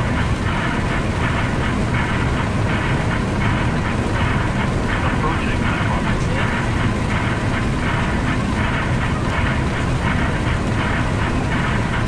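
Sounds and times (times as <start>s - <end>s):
airflow and engine rumble: 0.0s - 12.0s.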